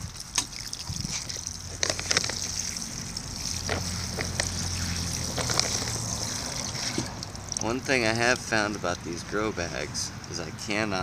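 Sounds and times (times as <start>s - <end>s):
watering can spraying onto soil: 0.1s - 9.0s.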